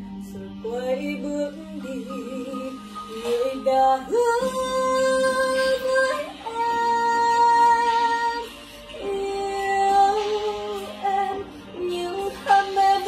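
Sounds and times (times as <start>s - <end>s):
woman singing slow ballad: 0.0s - 13.0s.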